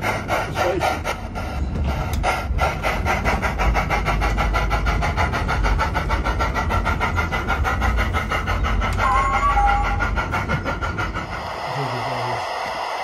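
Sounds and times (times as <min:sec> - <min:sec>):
model steam locomotive chuffing: 0:00.0 - 0:13.0
wheels rumbling on track: 0:00.0 - 0:13.0.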